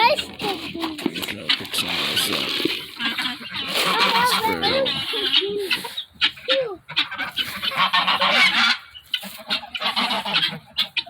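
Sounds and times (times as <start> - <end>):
poultry honking calls: 1.5 - 11.0.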